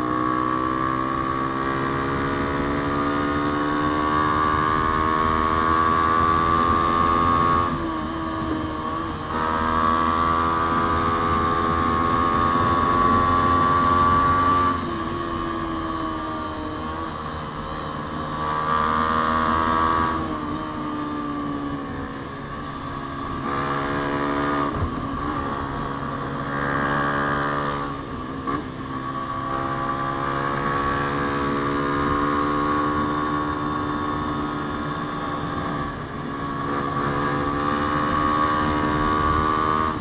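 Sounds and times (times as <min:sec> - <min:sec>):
motorcycle engine under throttle: 0:00.0 - 0:40.0.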